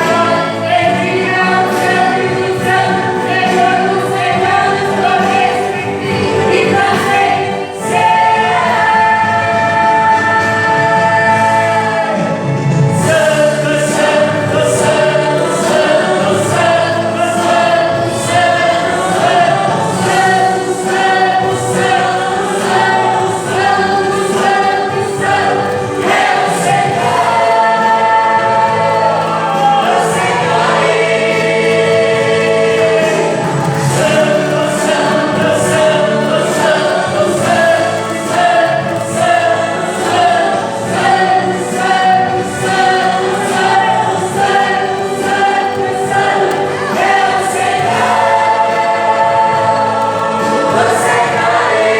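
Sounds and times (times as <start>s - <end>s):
choir singing gospel song: 0.0s - 51.9s
instrumental accompaniment with beat: 0.0s - 51.9s.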